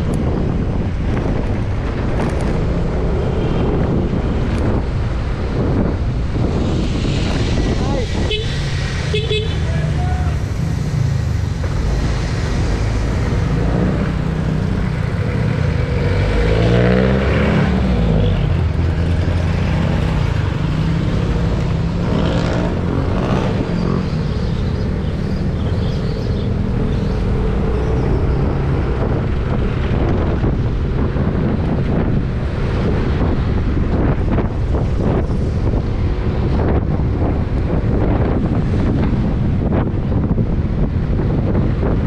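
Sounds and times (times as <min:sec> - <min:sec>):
road and wind noise: 0:00.0 - 0:42.0.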